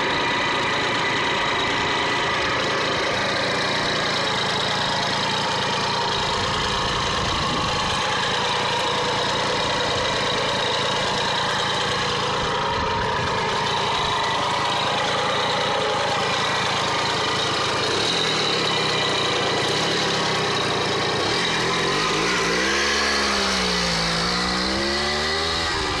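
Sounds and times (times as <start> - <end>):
moped engine idling and revving: 0.0 - 26.0.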